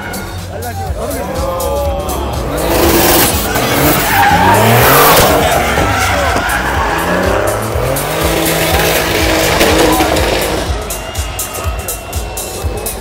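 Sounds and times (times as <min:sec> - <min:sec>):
car engine revving: 0:00.0 - 0:13.0
tyres squealing: 0:02.3 - 0:13.0.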